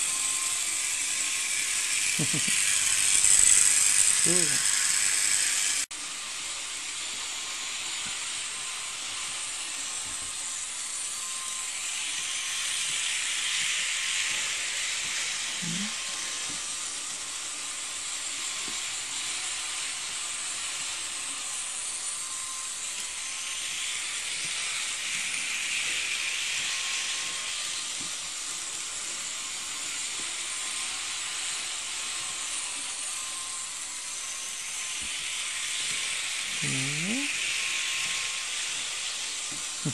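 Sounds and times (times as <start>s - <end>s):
model train whirring: 0.0s - 39.9s.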